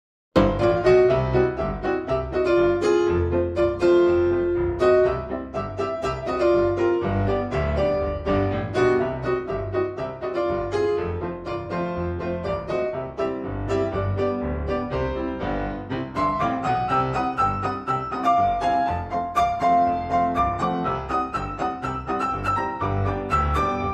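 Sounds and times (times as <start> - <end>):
keyboard music with bass: 0.4 - 23.9.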